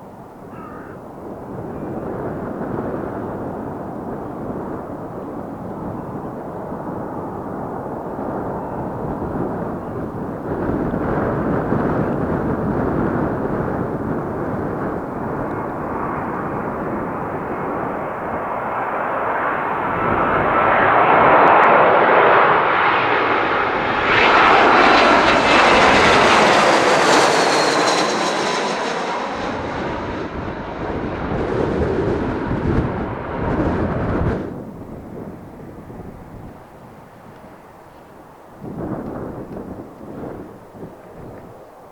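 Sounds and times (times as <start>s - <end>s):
airliner engines passing: 0.0s - 41.9s.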